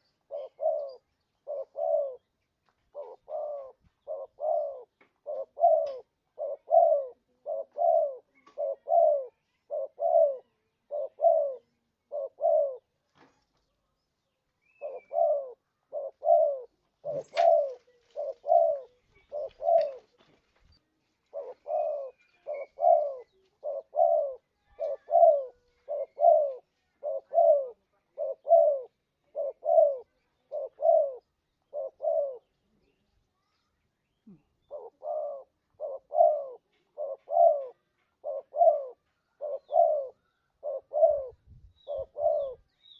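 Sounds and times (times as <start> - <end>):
dove cooing: 0.0 - 2.3, 2.9 - 13.0, 14.8 - 20.2, 21.2 - 33.0, 34.2 - 42.7.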